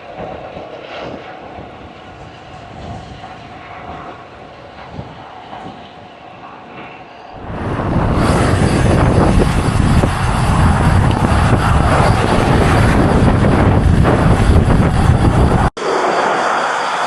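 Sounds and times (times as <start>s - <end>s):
wind buffeting microphone: 0.0s - 16.5s.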